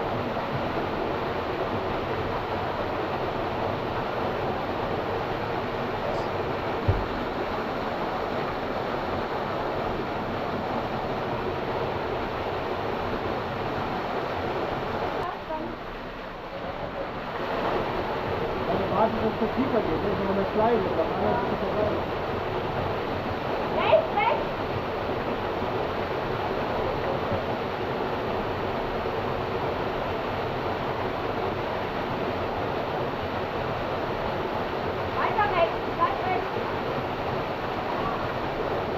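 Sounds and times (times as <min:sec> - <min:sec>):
fast-flowing water rushing: 0:00.0 - 0:38.9.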